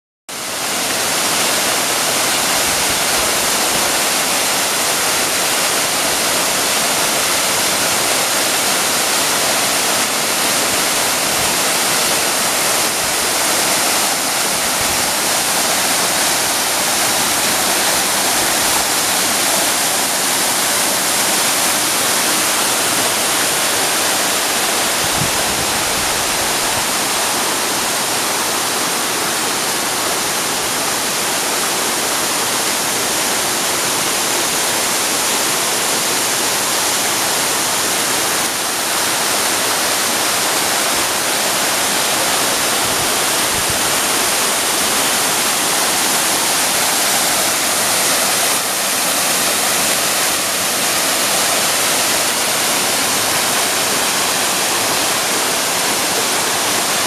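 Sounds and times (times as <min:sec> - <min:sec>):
waterfall rushing into pool: 0:00.3 - 0:57.0.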